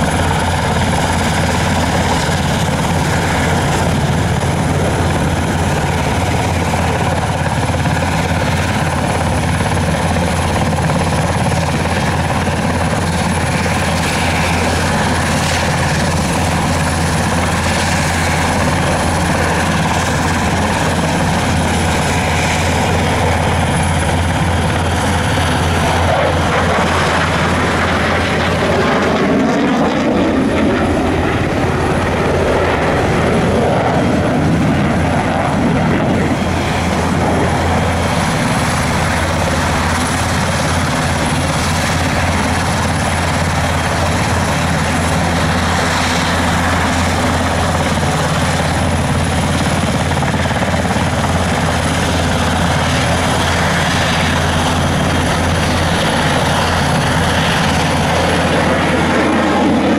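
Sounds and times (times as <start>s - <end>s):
helicopter engines droning: 0.0s - 59.9s
jet engine noise: 0.0s - 59.9s.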